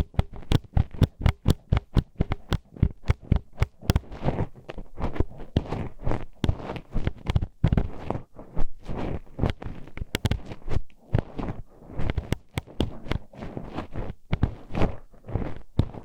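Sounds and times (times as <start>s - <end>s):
rubbing scrapes: 1.6s - 16.0s.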